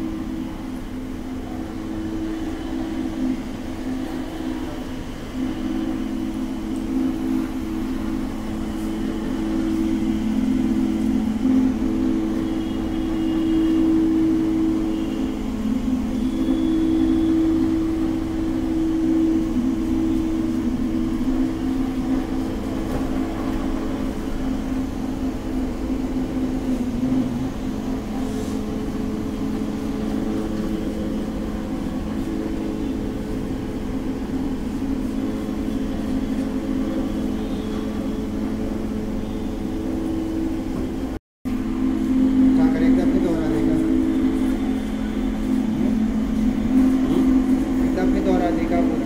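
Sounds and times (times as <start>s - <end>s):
floor machine motor hum: 0.0s - 49.0s.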